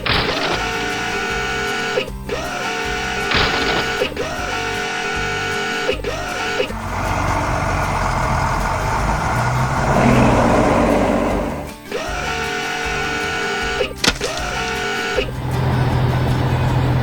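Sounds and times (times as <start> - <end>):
repeating music loop: 0.0 - 16.2
heavy machine rumble: 0.0 - 17.0.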